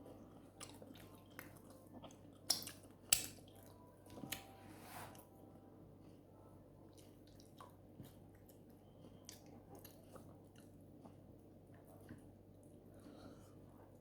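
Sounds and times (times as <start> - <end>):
faint chewing: 0.0 - 5.3, 6.0 - 14.0.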